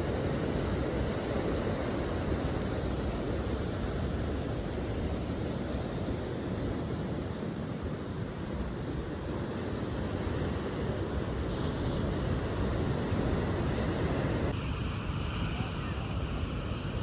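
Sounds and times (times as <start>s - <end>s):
ocean surf washing ashore: 0.0s - 17.0s.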